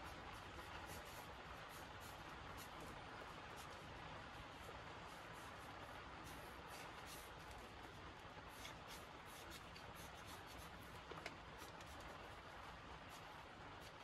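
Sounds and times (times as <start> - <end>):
pencil scratching on paper: 0.0 - 3.9, 4.5 - 7.8, 8.4 - 14.0.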